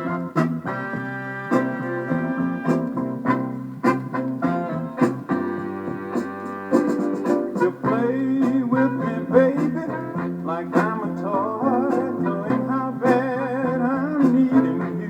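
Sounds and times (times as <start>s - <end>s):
guitar: 0.0s - 15.0s
keyboard chords: 0.0s - 15.0s.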